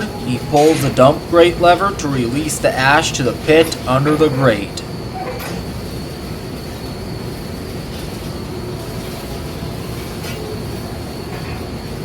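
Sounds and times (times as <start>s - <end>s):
boiler room machinery din: 0.0s - 12.0s.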